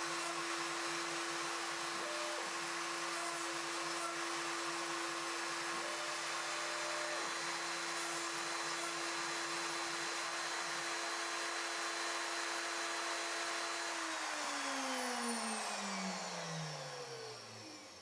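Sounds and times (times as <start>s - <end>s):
router spindle whining: 0.0s - 18.0s.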